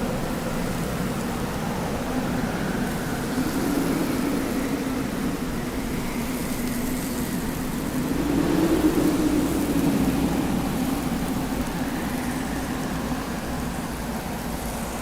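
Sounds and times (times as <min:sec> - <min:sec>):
wind blowing steadily: 0:00.0 - 0:15.0.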